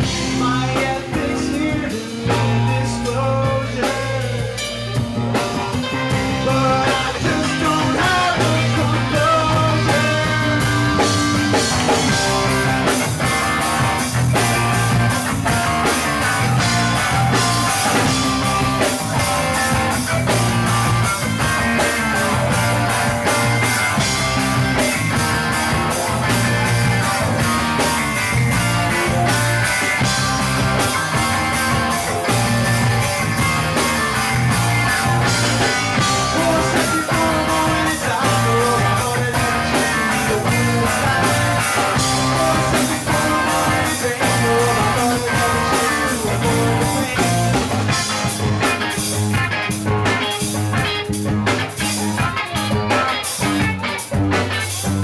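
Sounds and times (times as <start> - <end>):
drum kit beat: 0.0 - 55.0
electric guitars: 0.0 - 55.0.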